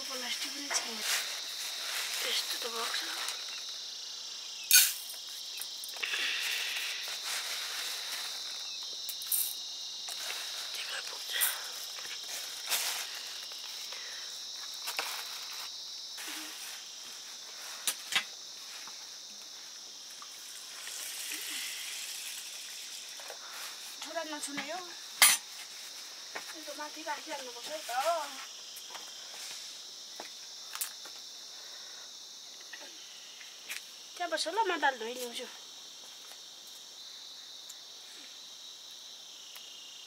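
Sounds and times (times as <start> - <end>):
insect chorus: 0.0 - 40.0.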